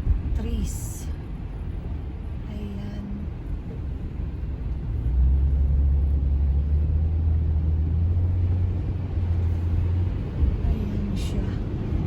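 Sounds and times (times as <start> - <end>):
car driving on highway: 0.0 - 12.0.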